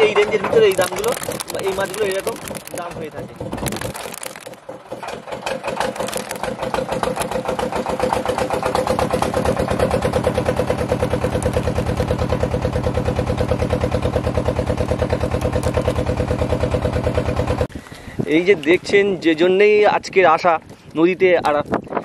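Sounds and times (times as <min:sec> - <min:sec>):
small boat engine running: 0:00.0 - 0:17.7.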